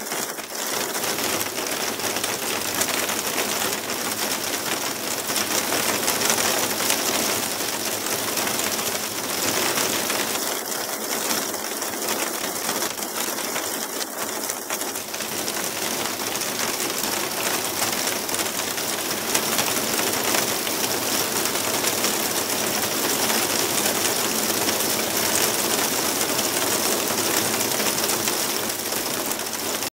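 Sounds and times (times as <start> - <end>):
hail pattering on tiled roofs: 0.0 - 29.9
heavy rain rushing: 0.0 - 29.9.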